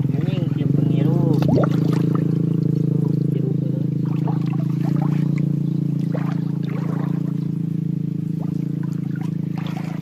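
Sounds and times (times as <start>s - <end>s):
motor droning: 0.0s - 10.0s
water splashing and trickling: 0.0s - 10.0s.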